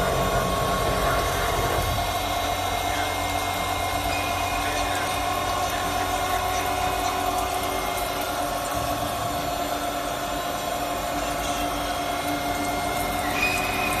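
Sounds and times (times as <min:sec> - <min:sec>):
mechanical hum: 0:00.0 - 0:14.0
milling machine whine: 0:00.0 - 0:14.0.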